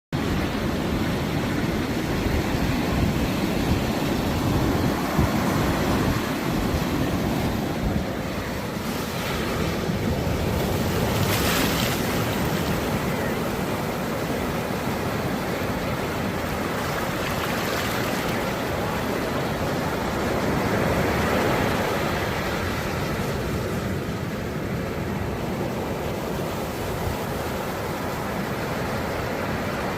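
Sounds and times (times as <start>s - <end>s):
ocean surf washing ashore: 0.2s - 29.9s.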